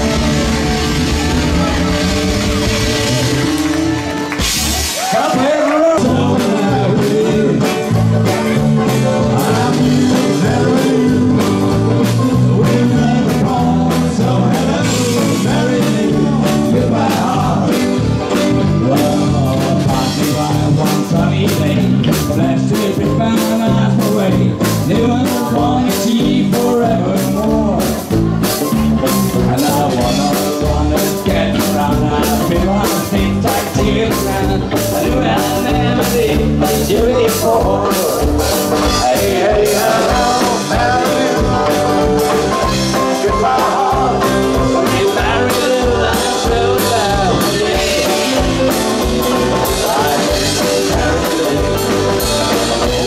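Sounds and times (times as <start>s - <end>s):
bass guitar: 0.0s - 53.0s
drums playing a steady beat: 0.0s - 53.0s
electric guitars: 0.0s - 53.0s
man singing: 5.0s - 53.0s.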